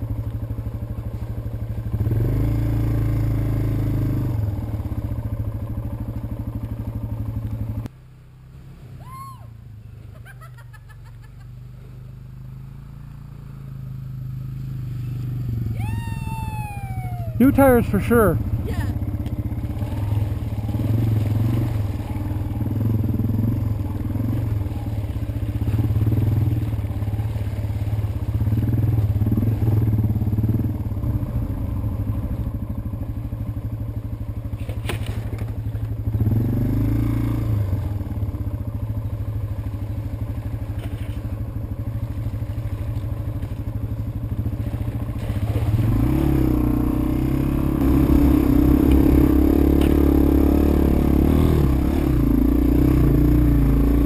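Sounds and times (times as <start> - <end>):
motorcycle engine running: 0.0 - 8.9, 9.6 - 54.0.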